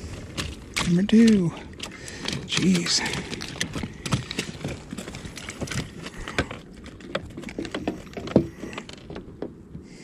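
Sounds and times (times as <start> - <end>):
gear knocking on plastic kayak: 0.3 - 9.6.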